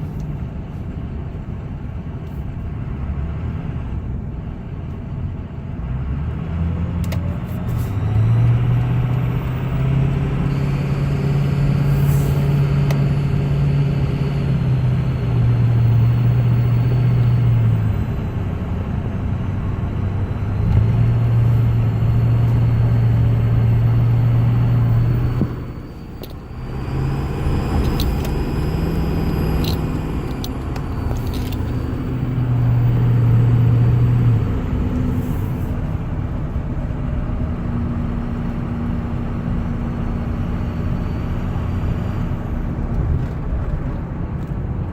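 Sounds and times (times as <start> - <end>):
diesel truck engine running: 0.0 - 44.9.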